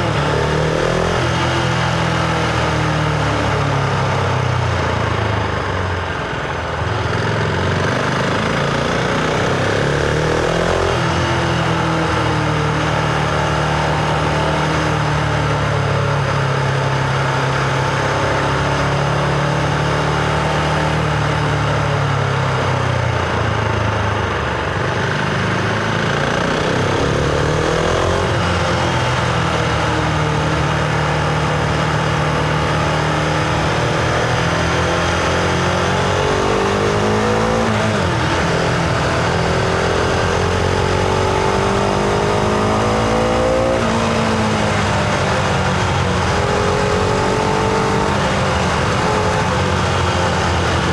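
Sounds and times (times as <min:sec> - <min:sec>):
motorcycle engine running: 0:00.0 - 0:50.9
road and wind rush: 0:00.0 - 0:50.9.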